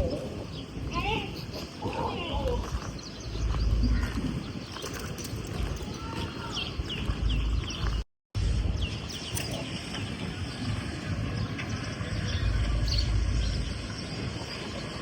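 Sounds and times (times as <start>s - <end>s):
small birds chirping: 0.0s - 8.0s, 8.6s - 15.0s
steady low rumble: 0.0s - 15.0s.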